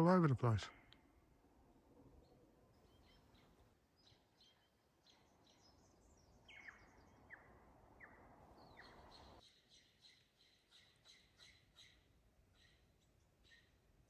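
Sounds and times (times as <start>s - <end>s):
small birds chirping: 2.1s - 14.0s
downward-sweeping bird calls: 2.2s - 13.8s.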